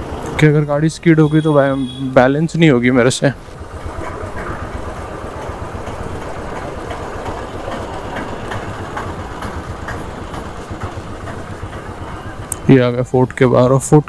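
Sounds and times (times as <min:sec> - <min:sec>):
motorcycle engine on cobbles: 0:00.0 - 0:12.9.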